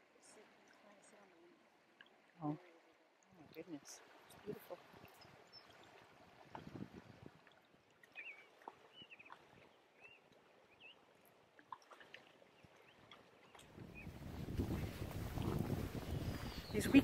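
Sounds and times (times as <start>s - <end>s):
shallow river wash: 0.0s - 17.0s.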